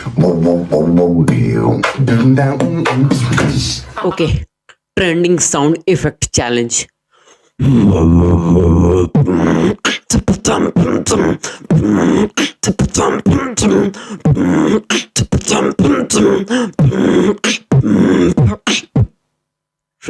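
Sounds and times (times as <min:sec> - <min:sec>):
man beatboxing: 0:00.0 - 0:04.8, 0:07.6 - 0:19.2.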